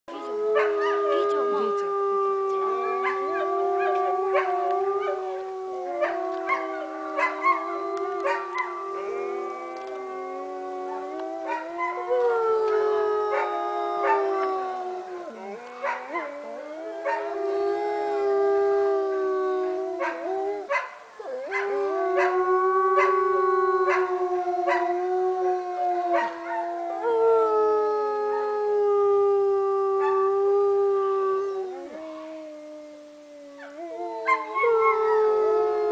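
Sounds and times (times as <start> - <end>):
wolves howling: 0.1 - 35.9.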